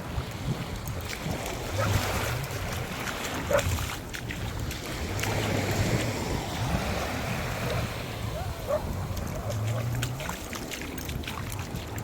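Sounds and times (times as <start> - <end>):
surf washing at shoreline: 0.0 - 12.0
wind buffeting microphone: 0.0 - 12.0.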